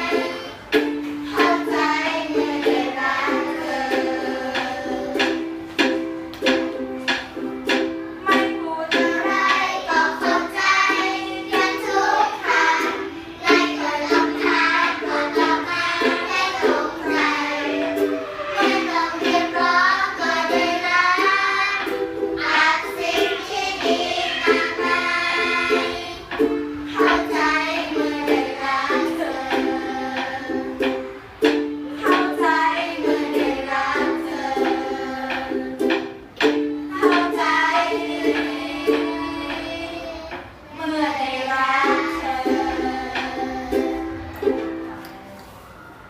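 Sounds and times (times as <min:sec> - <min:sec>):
person singing: 0:00.0 - 0:06.0, 0:08.2 - 0:31.0, 0:32.0 - 0:36.1, 0:36.8 - 0:45.4
plucked string accompaniment: 0:00.0 - 0:45.8.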